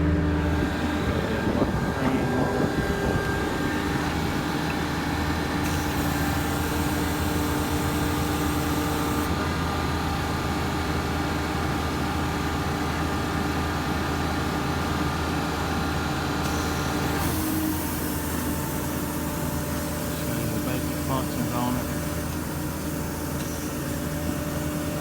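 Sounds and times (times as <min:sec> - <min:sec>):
air compressor running: 0:00.0 - 0:25.0
diesel engine running: 0:00.0 - 0:25.0.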